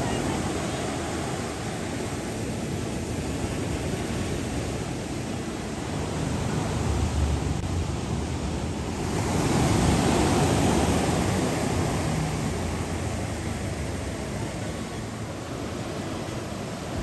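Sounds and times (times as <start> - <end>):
wave breaking on beach: 0.0 - 17.0
wind rumble on microphone: 0.0 - 17.0.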